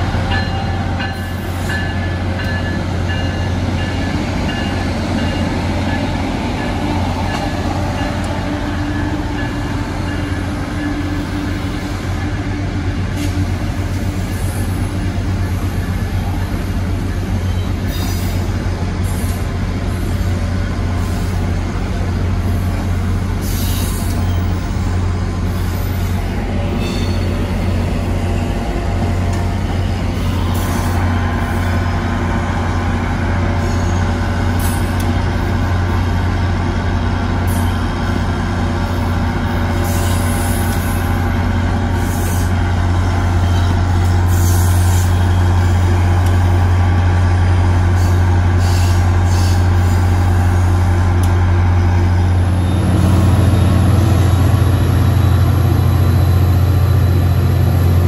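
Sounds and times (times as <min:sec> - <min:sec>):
diesel locomotive engine drone: 0:00.0 - 0:58.0.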